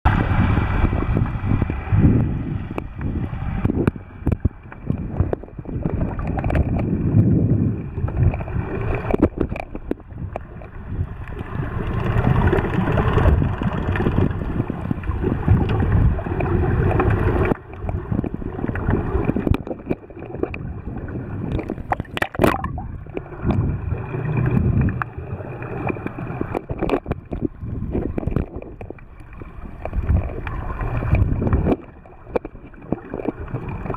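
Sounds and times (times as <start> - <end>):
underwater rumble and sloshing: 0.0 - 33.9
bubbling: 0.1 - 33.9
underwater clicks: 2.7 - 33.9.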